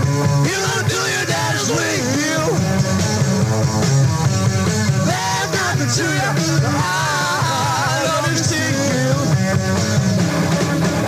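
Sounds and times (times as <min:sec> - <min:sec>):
bending lead guitar line: 0:00.0 - 0:11.0
live rock band playing: 0:00.0 - 0:11.0.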